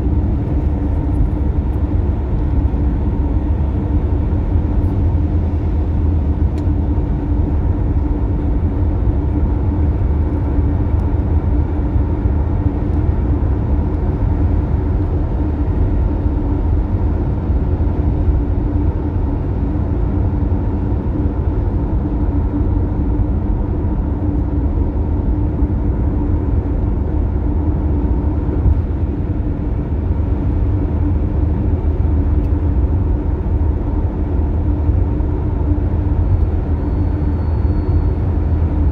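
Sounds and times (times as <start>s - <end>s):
road and engine rumble: 0.0s - 38.9s
steady droning hum: 0.0s - 38.9s.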